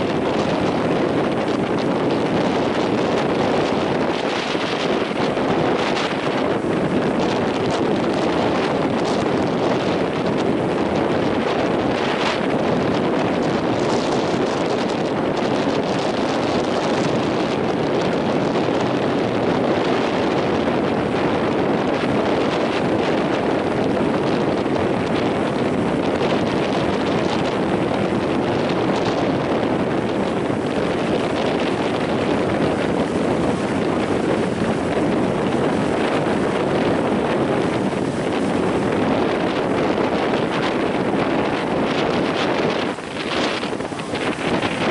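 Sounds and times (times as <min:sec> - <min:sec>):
surf breaking: 0:00.0 - 0:44.9
wind blowing across microphone: 0:00.0 - 0:44.9.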